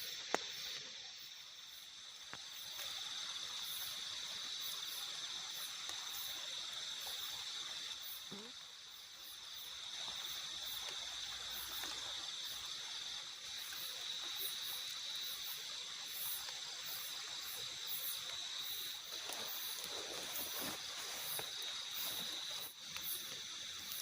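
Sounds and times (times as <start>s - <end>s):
shrill insect chorus: 0.0s - 24.0s
very high insect chirp: 0.0s - 24.0s.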